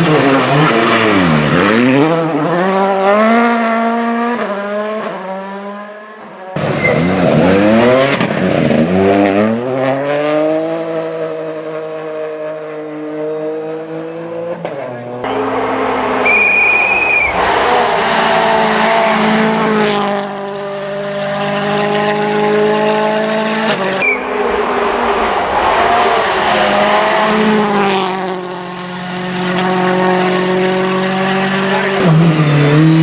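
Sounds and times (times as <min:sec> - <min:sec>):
rally car engines revving past: 0:00.0 - 0:33.0.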